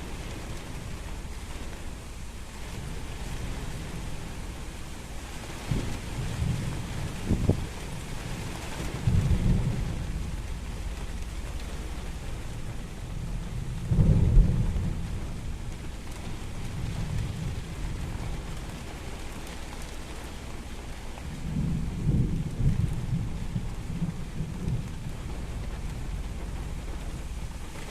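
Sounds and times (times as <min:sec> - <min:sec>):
thunder rumbling: 0:00.0 - 0:19.6, 0:20.8 - 0:27.9
steady rain: 0:00.0 - 0:27.9.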